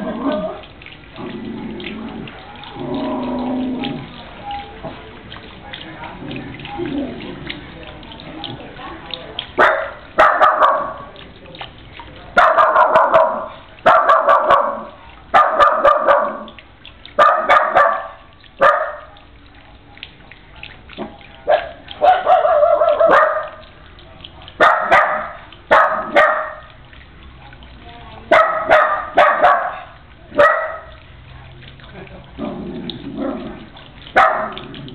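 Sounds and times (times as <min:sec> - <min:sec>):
garden fountain splashing: 0:00.0 - 0:34.9.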